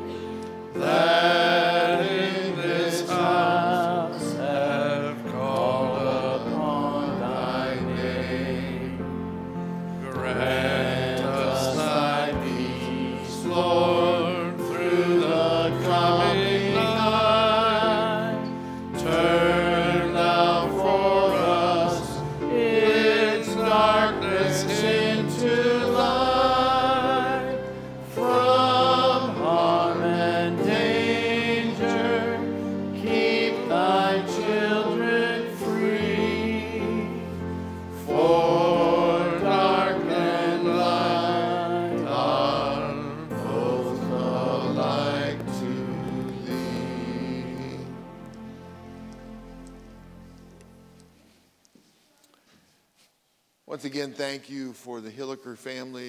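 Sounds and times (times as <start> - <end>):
congregation singing a hymn: 0.0 - 51.3
sustained instrumental accompaniment: 0.0 - 51.5.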